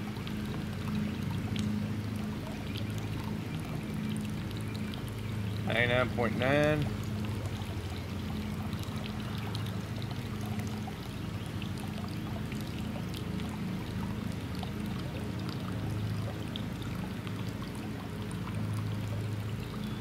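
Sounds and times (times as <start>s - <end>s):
low steady hum: 0.0s - 20.0s
water pouring into a pool: 0.0s - 20.0s.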